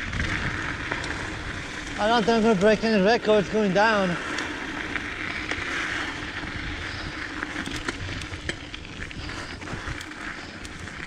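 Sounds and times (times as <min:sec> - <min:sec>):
bike clicking and rattling: 0:00.0 - 0:11.0
tyre and wind noise: 0:00.0 - 0:11.0.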